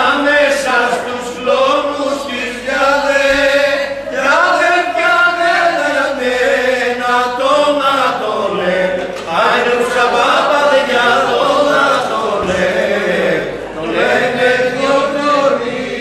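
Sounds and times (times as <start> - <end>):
group of men singing: 0.0 - 16.0.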